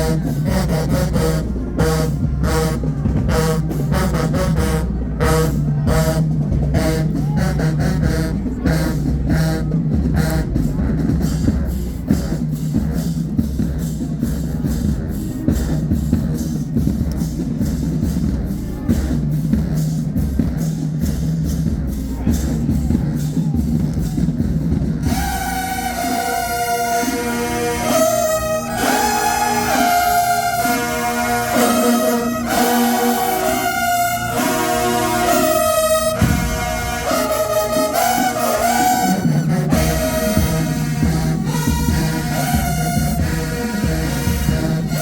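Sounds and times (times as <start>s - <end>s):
driving drum beat: 0.0s - 45.0s
marching band brass chords: 0.0s - 45.0s.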